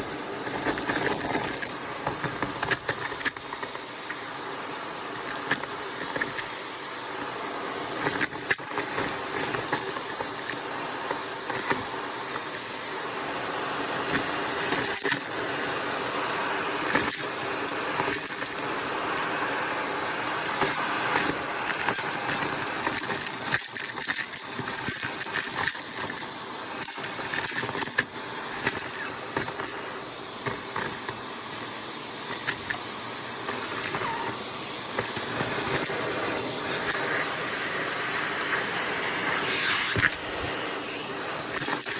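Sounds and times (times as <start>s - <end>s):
vacuum cleaner motor: 0.0s - 41.9s
debris rattling through vacuum tool: 0.1s - 4.2s, 5.0s - 12.8s, 13.4s - 32.8s, 33.4s - 41.9s.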